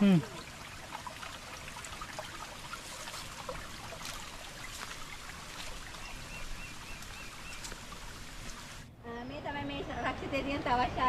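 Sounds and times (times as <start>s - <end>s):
stream trickling: 0.0s - 8.9s.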